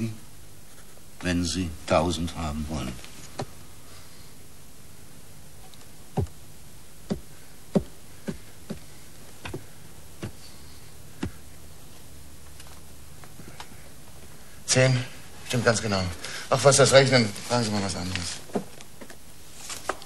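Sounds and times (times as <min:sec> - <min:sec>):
tape hiss: 0:00.0 - 0:20.0.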